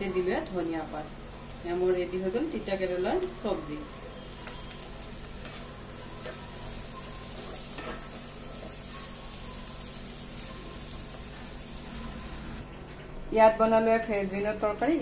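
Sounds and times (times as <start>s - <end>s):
vegetables sizzling in a pan: 0.0s - 12.6s.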